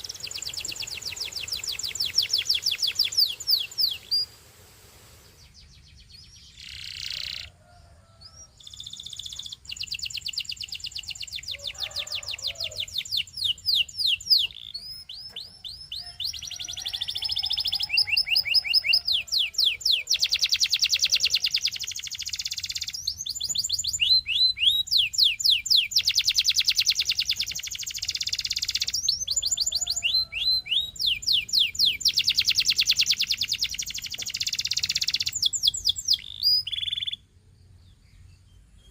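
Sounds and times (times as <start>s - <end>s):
canary singing trills: 0.0s - 4.4s, 5.4s - 7.6s, 8.2s - 38.9s.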